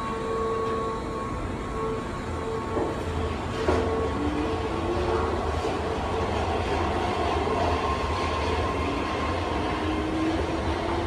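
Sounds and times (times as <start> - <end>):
thin whining tones: 0.0 - 11.0
train rumble in station: 0.0 - 11.0.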